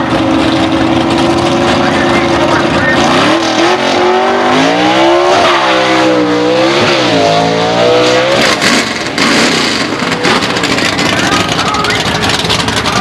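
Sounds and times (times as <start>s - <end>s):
drag car engine revving hard: 0.0s - 13.0s
steady noisy rush: 0.0s - 13.0s.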